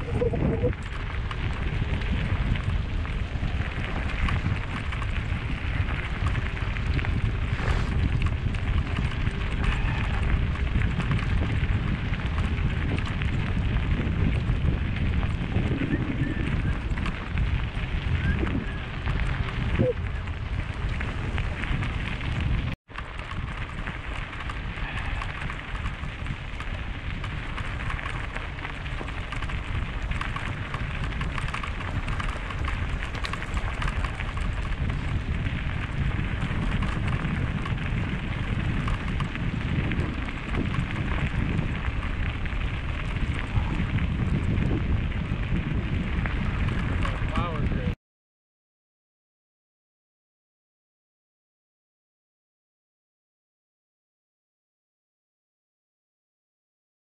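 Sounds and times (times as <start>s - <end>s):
wind buffeting microphone: 0.0s - 48.0s
tyres crunching on gravel: 0.2s - 47.4s.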